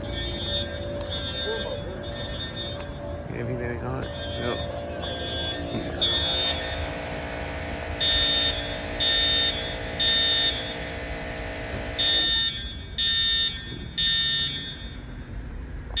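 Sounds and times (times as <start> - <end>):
fire alarm horn beeping: 0.0 - 15.4.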